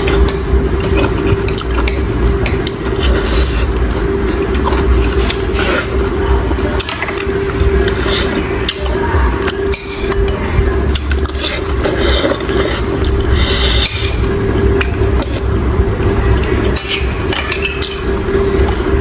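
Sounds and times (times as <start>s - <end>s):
steady low hum: 0.0s - 19.0s
wet slurping and chewing: 0.0s - 19.0s.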